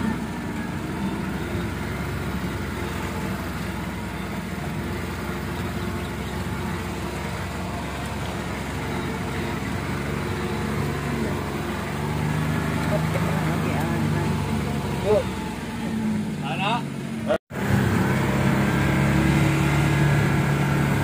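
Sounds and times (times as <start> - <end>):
road and wind noise: 0.0 - 21.0
vehicle engine humming: 0.0 - 21.0.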